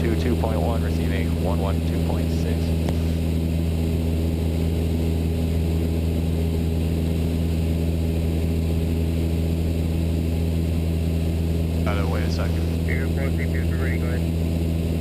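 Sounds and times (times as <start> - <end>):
light aircraft engine droning: 0.0 - 15.0.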